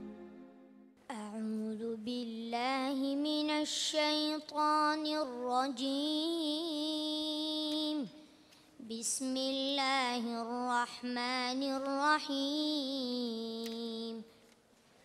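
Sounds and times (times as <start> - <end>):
boy reciting melodically: 1.1 - 14.6.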